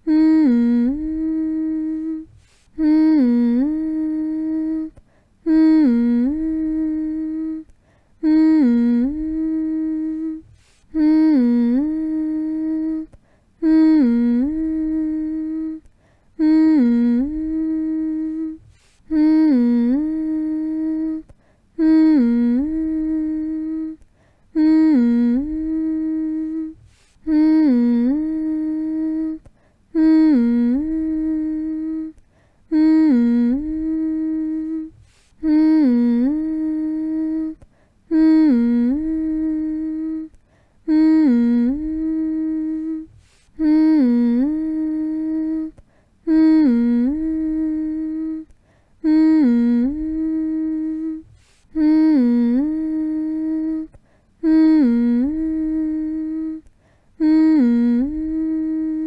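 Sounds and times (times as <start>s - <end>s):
person humming: 0.0s - 59.0s.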